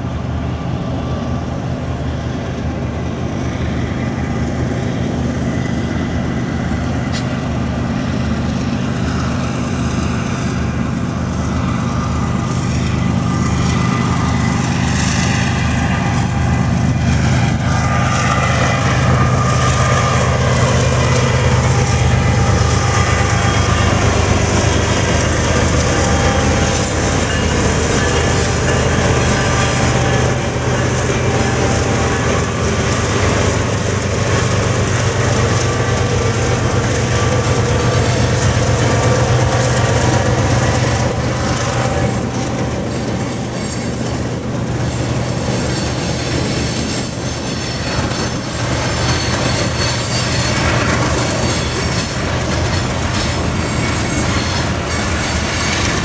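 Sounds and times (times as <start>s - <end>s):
freight locomotives engines droning: 0.0s - 56.0s.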